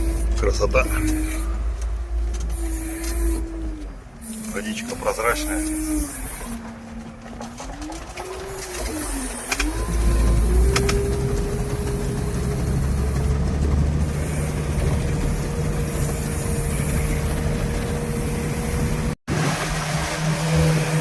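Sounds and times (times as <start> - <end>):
high drivetrain whine: 0.0 - 21.0
vehicle engine running: 0.0 - 21.0.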